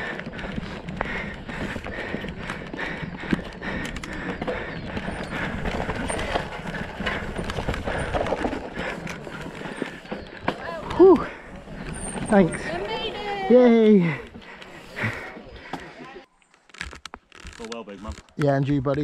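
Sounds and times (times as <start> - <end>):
bike tyres rushing over dirt: 0.0 - 15.7
bike knocking and rattling: 0.0 - 19.0.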